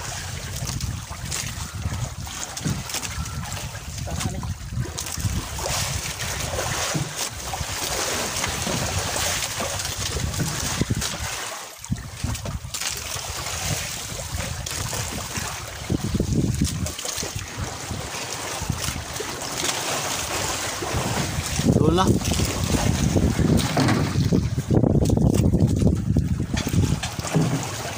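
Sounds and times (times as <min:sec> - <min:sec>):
wind buffeting microphone: 0:00.0 - 0:19.3, 0:20.2 - 0:27.9
sea washing around boat: 0:00.0 - 0:27.9.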